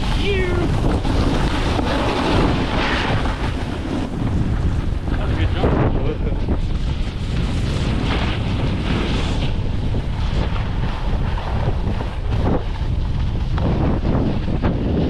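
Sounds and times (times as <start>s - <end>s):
snowboard sliding over snow: 0.0s - 15.0s
wind buffeting microphone: 0.0s - 15.0s.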